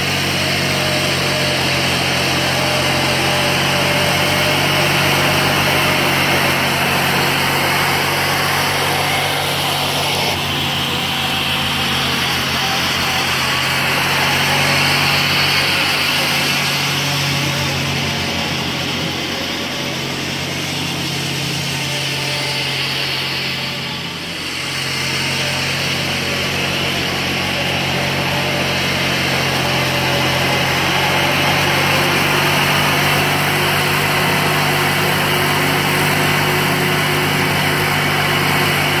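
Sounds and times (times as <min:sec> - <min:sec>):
garden tractor engine running: 0:00.0 - 0:39.0.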